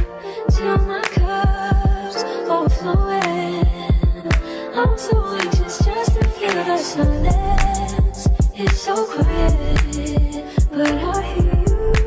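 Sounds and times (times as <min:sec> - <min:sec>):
held vocal line: 0:00.0 - 0:12.0
pop song with drum beat: 0:00.0 - 0:12.0.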